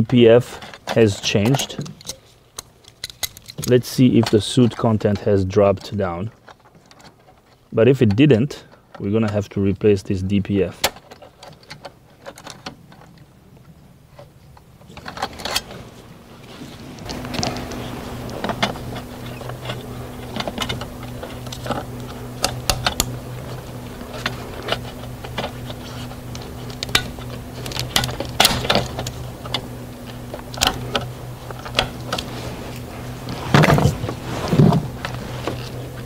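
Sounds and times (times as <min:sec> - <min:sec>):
hands and tools clicking and rattling: 0:00.0 - 0:09.5, 0:10.8 - 0:16.0, 0:17.0 - 0:36.0
steady low hum: 0:00.0 - 0:36.0.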